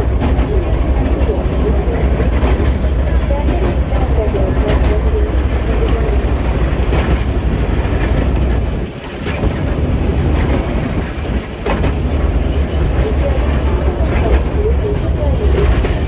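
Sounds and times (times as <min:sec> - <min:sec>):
train rumbling: 0:00.0 - 0:16.0
wheel clack over rail joints: 0:00.0 - 0:16.0.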